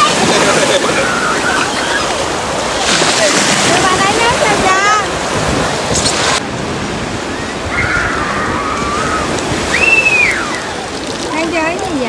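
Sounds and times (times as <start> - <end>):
beach ambience: 0.0 - 12.0
sea surf washing: 0.0 - 12.0.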